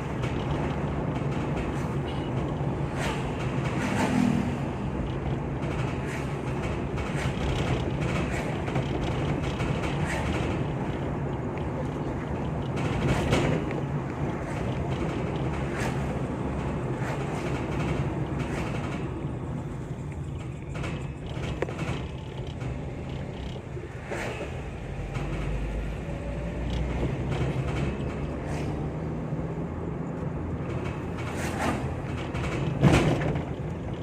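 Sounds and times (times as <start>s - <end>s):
knocks and rattles: 0.0s - 34.0s
vehicle rumbling on the move: 0.0s - 34.0s.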